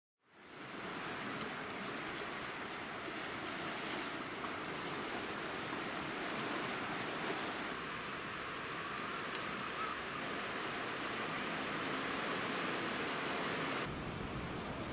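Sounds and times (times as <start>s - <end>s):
sea surf against rocks: 0.4s - 14.9s.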